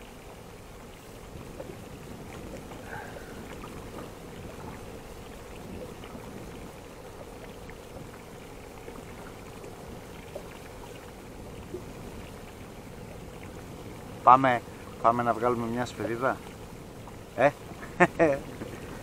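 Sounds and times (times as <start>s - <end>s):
faint steady hum: 0.0s - 19.0s
water lapping against boat hull: 0.0s - 19.0s.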